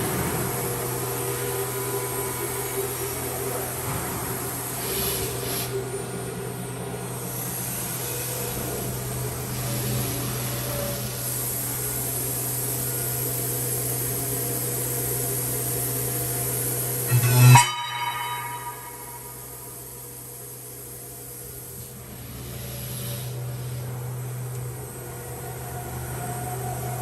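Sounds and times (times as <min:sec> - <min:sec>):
machining centre humming and whining: 0:00.0 - 0:27.0.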